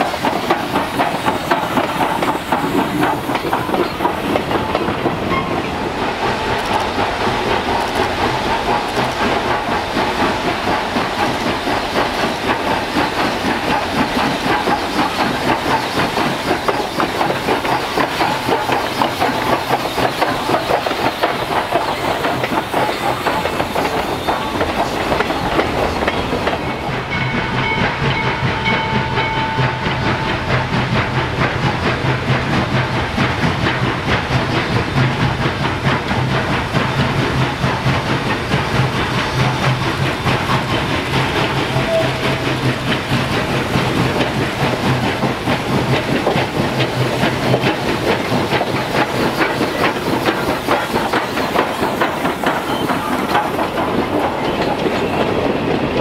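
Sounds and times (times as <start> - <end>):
steam locomotive exhaust beats: 0.0 - 56.0
train rumble: 0.0 - 56.0.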